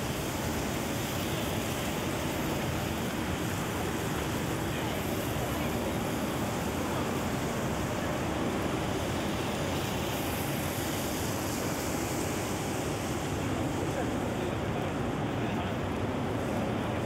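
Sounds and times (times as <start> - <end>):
steady rain hissing: 0.0 - 17.0
wet traffic rumble: 0.0 - 17.0.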